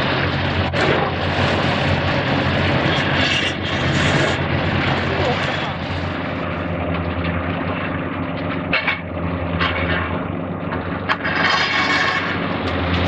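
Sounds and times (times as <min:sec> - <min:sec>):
excavator diesel engines running: 0:00.0 - 0:13.0.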